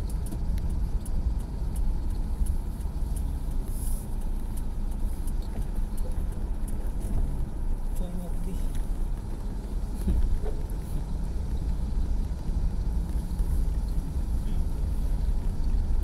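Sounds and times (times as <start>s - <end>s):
car rumbling on wet road: 0.0s - 16.0s
faint light ticks: 0.0s - 16.0s.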